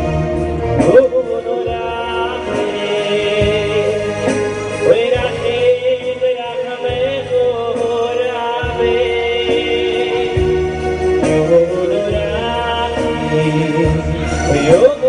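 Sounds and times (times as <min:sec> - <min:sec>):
electronic keyboard bass and chords: 0:00.0 - 0:15.0
man singing into a microphone: 0:00.6 - 0:15.0.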